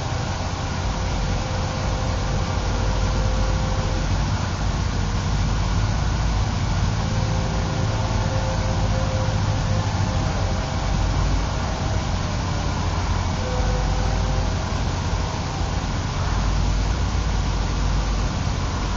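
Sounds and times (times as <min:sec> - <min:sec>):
whine of small electric motors: 0:00.0 - 0:18.9.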